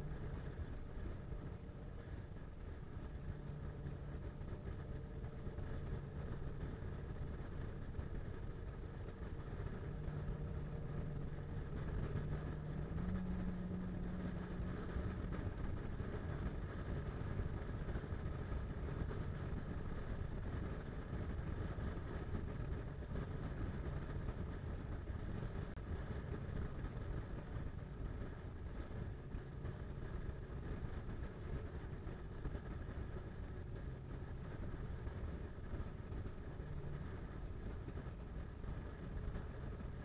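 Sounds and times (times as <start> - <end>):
car engine and road rumble: 0.0 - 40.0
faint low hum: 0.0 - 40.0.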